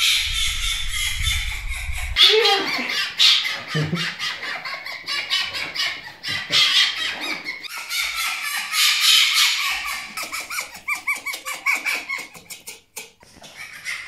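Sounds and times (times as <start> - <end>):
fox high-pitched chatter: 0.3 - 14.0.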